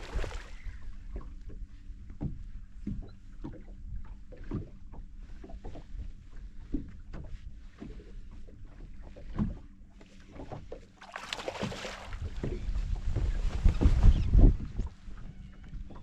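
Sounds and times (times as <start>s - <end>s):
boat engine rumble: 0.0s - 16.0s.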